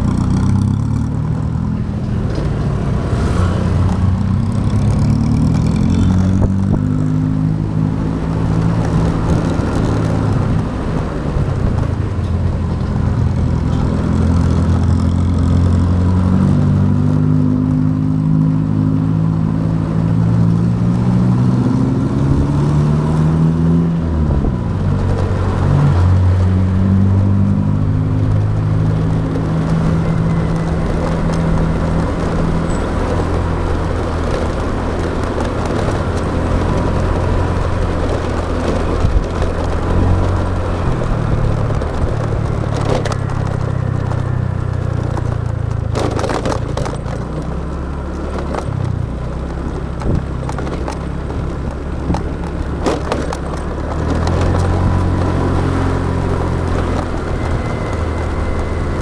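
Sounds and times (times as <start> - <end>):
sharp clicks and knocks: 0.0 - 17.1, 23.9 - 59.0
motorbike engine running: 0.0 - 59.0.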